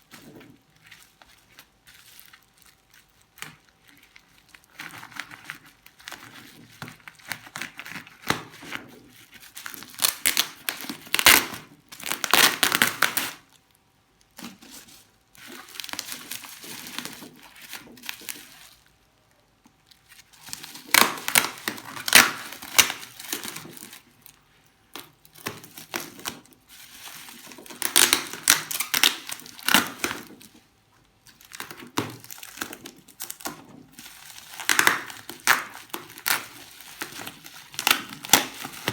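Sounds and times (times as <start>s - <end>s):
packaging crinkling and rustling: 0.0s - 38.9s
packaging tearing: 0.1s - 13.6s, 14.4s - 18.8s, 20.0s - 24.4s, 25.3s - 30.6s, 31.3s - 38.9s.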